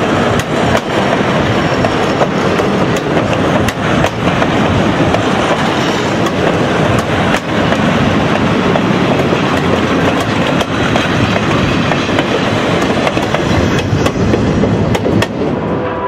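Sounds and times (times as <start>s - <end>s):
train wheels clicking over rail joints: 0.0s - 15.4s
wheel and rail rumble: 0.0s - 15.9s.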